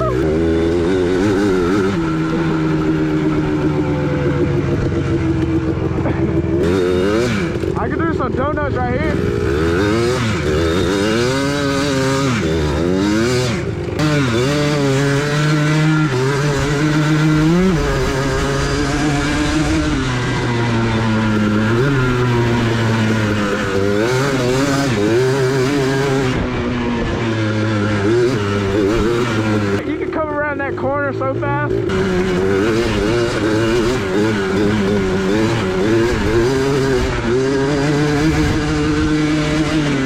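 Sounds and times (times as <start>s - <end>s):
off-road engine revving: 0.0s - 40.0s.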